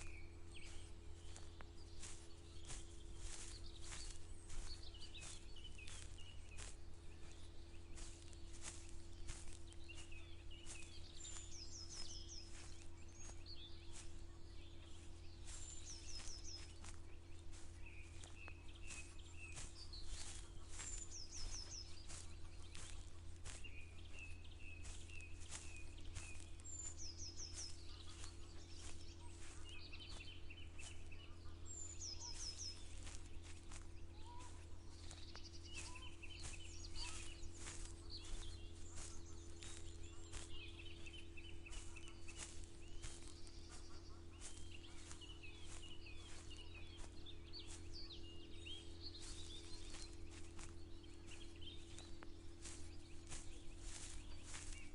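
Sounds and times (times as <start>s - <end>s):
footsteps clicking: 0.0s - 54.9s.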